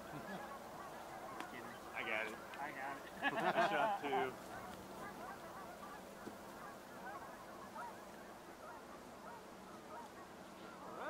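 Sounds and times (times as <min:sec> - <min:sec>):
distant waterfowl calling: 0:00.0 - 0:11.0.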